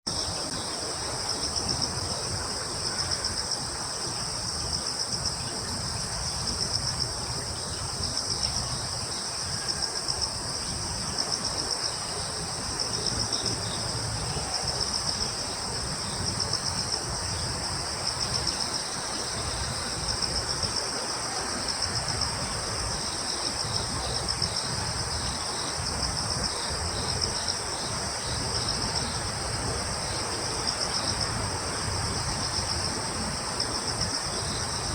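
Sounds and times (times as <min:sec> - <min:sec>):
crickets trilling: 0:00.1 - 0:34.9.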